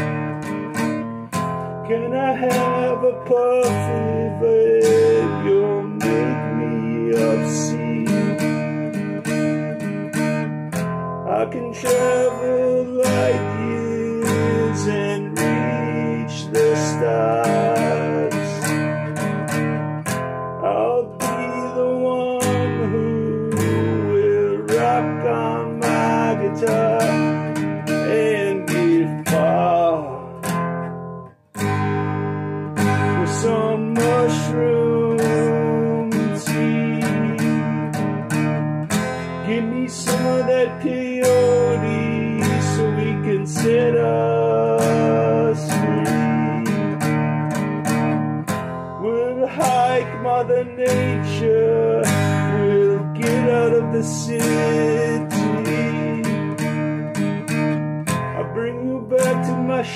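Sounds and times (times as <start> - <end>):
song with strummed acoustic guitar: 0.0 - 59.9.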